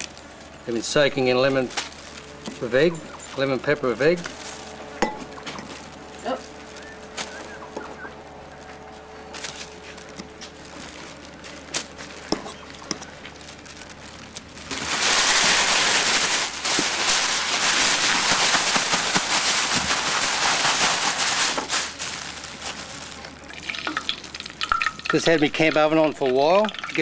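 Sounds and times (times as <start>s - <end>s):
plastic bag crinkling: 0.0s - 27.0s.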